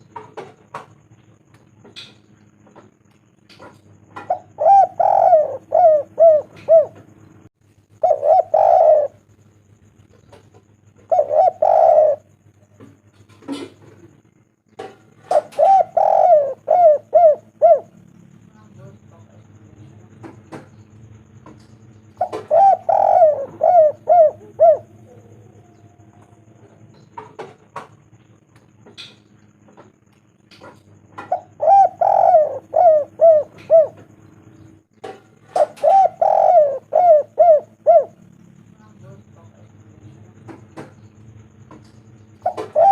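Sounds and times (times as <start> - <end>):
dove cooing: 3.6 - 14.2, 14.8 - 30.0, 30.6 - 39.6, 40.3 - 42.9.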